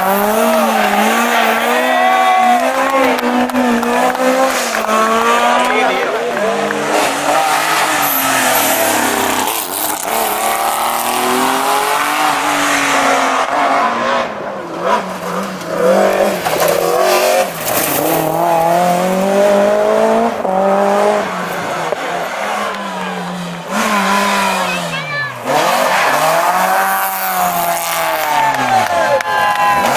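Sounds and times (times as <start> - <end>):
rally car engine at full throttle: 0.0 - 29.9.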